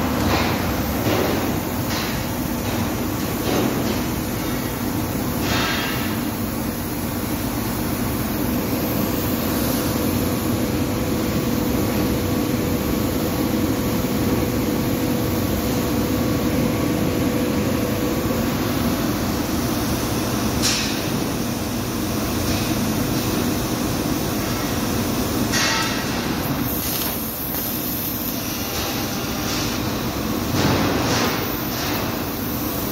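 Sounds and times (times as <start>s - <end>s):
laser cutter hum and rush: 0.0s - 32.9s.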